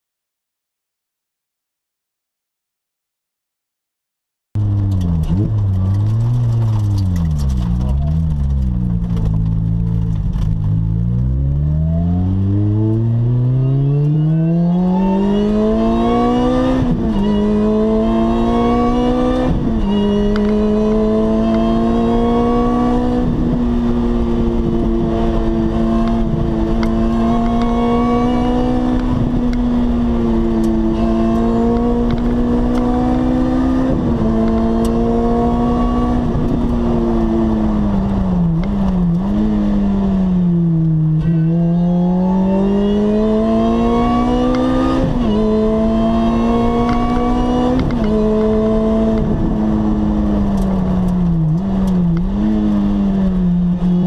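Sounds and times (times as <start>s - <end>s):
car engine accelerating: 4.6s - 54.0s.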